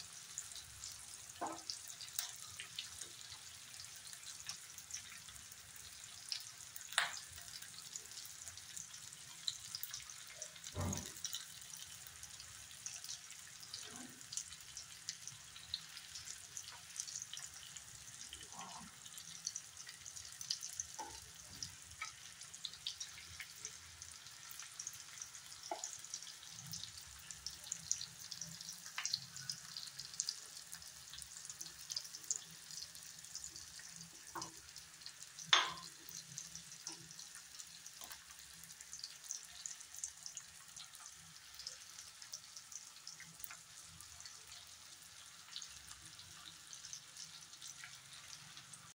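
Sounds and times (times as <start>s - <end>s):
food sizzling in pans: 0.0s - 48.9s.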